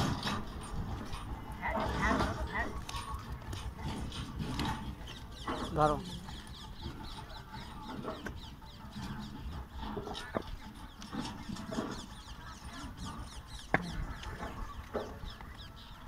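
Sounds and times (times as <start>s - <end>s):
birds and fowl chirping and clucking: 0.0s - 16.0s.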